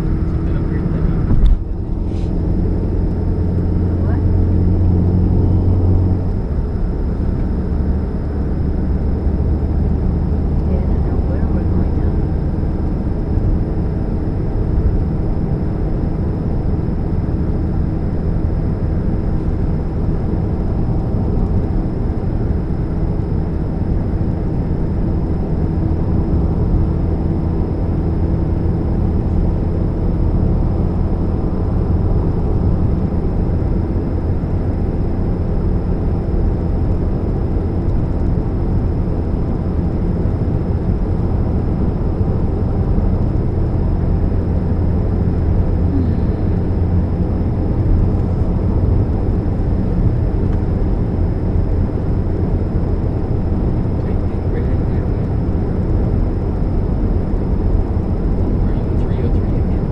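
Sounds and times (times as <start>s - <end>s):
car engine low rumble: 0.0s - 59.9s
faint steady hum: 0.0s - 59.9s.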